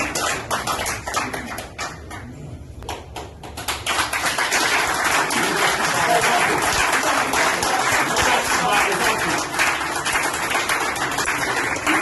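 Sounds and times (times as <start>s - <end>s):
people applauding: 0.0s - 12.0s.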